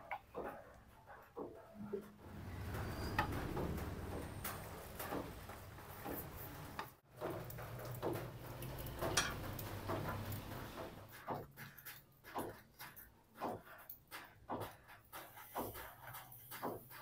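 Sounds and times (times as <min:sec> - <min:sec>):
clicks and taps of utensils: 0:03.2 - 0:17.0.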